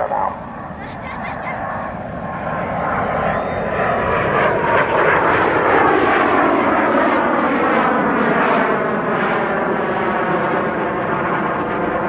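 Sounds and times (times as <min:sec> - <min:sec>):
jet aircraft roar and whine: 0:00.0 - 0:12.0.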